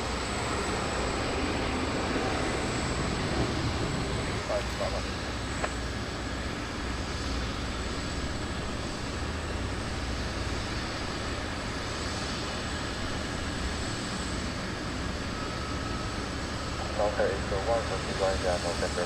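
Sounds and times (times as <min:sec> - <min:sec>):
jet engines rushing: 0:00.0 - 0:19.0.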